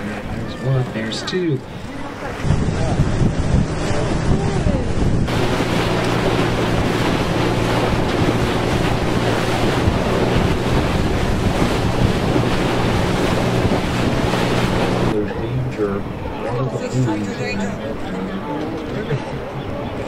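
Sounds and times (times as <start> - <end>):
boat engine drone: 0.0 - 20.0
water rushing past hull: 0.0 - 20.0
wind buffeting microphone: 0.0 - 20.0.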